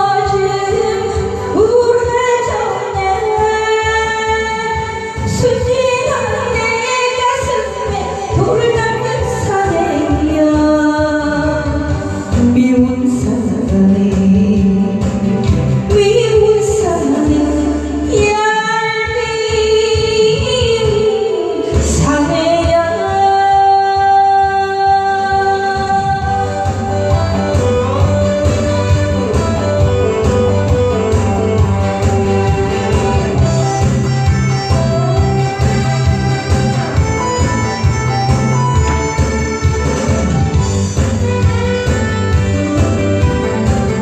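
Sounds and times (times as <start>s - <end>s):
woman singing: 0.0s - 37.9s
instrumental backing music: 0.0s - 44.0s.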